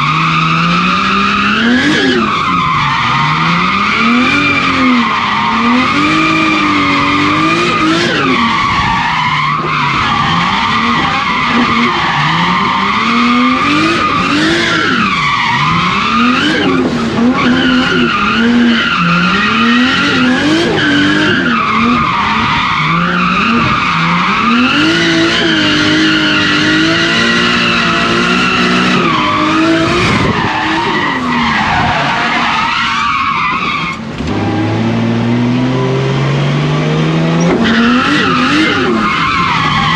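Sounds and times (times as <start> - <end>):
car engine revving: 0.0 - 39.9
tyres skidding: 0.0 - 39.9.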